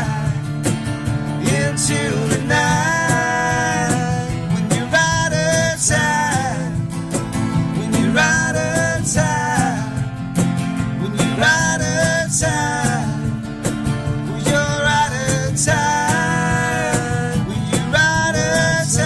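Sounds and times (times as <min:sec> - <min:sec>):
person singing: 0:00.0 - 0:00.5, 0:01.4 - 0:06.9, 0:07.7 - 0:10.1, 0:11.0 - 0:13.4, 0:14.2 - 0:19.0
strummed acoustic guitar: 0:00.0 - 0:19.0.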